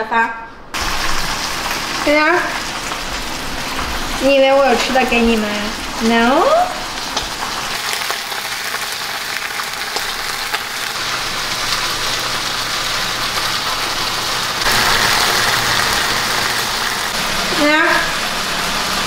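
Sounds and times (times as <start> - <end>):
greens sizzling in frying pan: 0.8 - 19.0.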